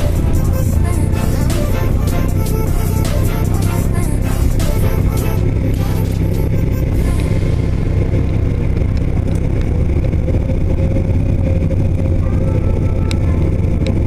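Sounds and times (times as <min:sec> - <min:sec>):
vehicle engine running from inside cab: 0:00.0 - 0:14.0.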